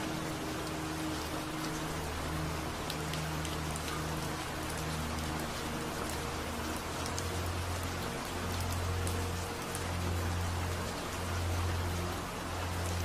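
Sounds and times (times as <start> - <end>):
low music drone: 0.0 - 13.0
rain falling: 0.0 - 13.0.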